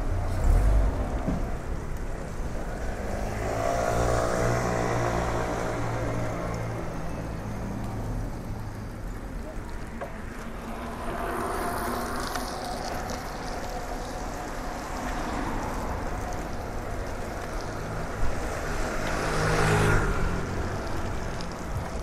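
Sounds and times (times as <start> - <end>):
car passing: 0.0 - 6.9, 9.7 - 22.0
bicycle tyres on wet street: 0.0 - 22.0.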